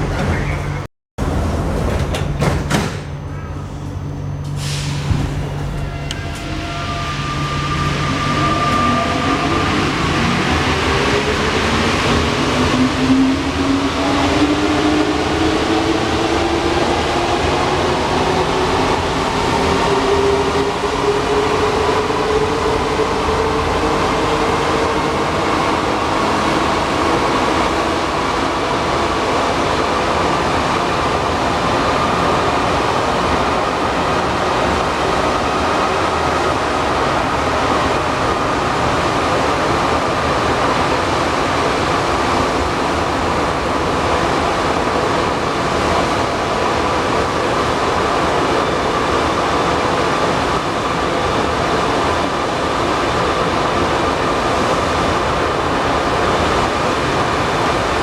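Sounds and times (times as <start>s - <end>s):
metro train running: 0.0s - 58.0s.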